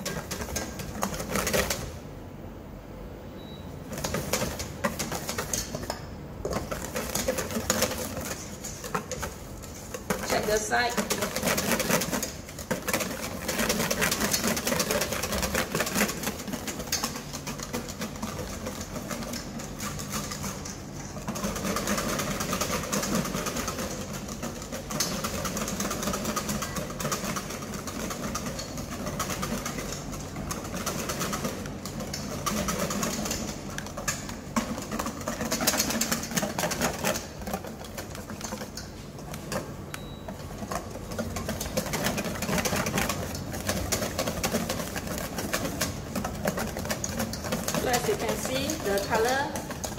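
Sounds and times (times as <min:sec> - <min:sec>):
whisk clattering in metal bowl: 0:03.9 - 0:49.9.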